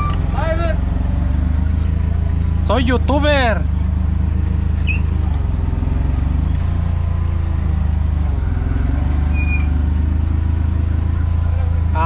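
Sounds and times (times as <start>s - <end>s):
forklift engine running: 0.0s - 12.0s.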